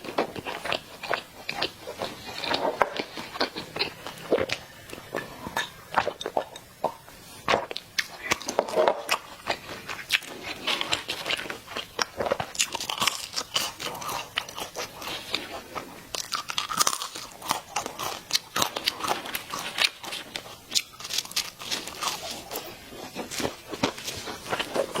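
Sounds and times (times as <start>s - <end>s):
chewing: 0.0s - 25.0s
crunching fried chicken: 0.0s - 25.0s.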